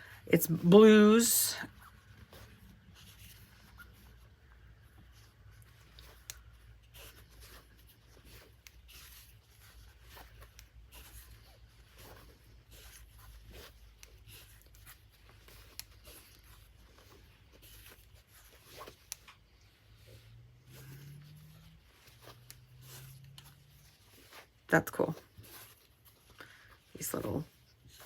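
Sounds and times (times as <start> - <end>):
fabric rustling: 0.0 - 28.0.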